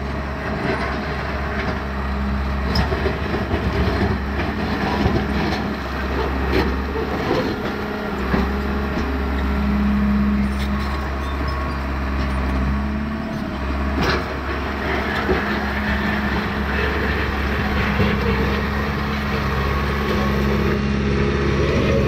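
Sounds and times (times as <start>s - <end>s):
bulldozer diesel engine running: 0.0s - 22.0s
steel tracks clanking: 0.5s - 22.0s.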